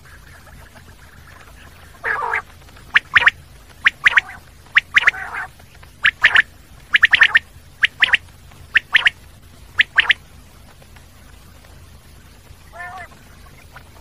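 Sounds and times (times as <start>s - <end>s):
quail singing: 0.0s - 10.2s, 12.6s - 14.0s.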